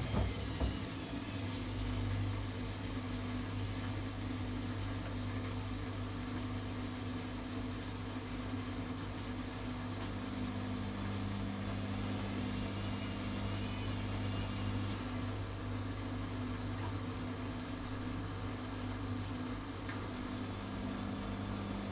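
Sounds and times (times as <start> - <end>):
washing machine motor hum: 0.0 - 21.9.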